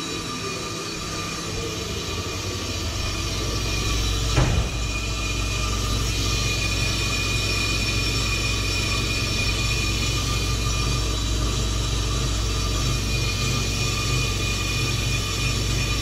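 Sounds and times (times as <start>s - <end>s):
brake lathe motor hum: 0.9s - 16.0s.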